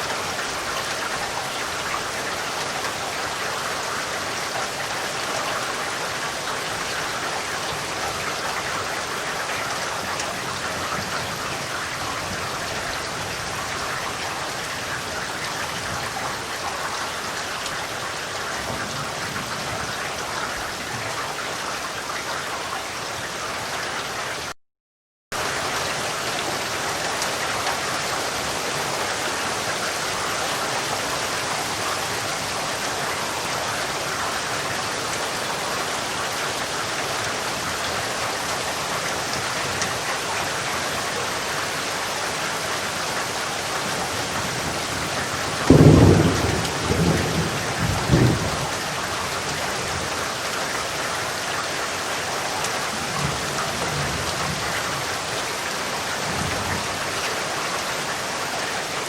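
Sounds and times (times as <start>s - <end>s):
dense rainfall: 0.0s - 24.6s, 25.3s - 59.0s.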